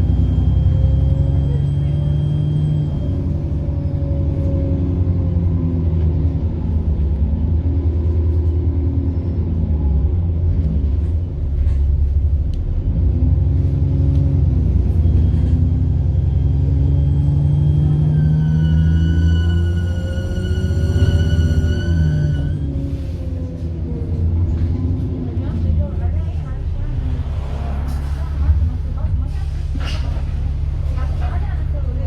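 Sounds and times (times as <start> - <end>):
diesel bus engine: 0.0 - 32.0.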